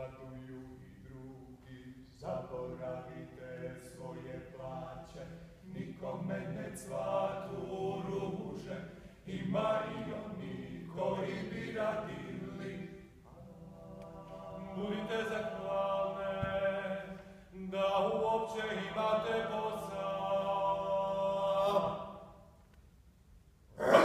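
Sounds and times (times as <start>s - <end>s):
voices singing in harmony: 0.0s - 22.4s.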